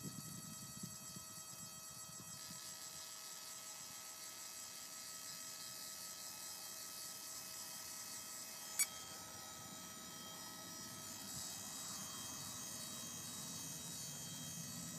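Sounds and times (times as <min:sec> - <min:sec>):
high electronic servo whine: 0:00.0 - 0:14.9.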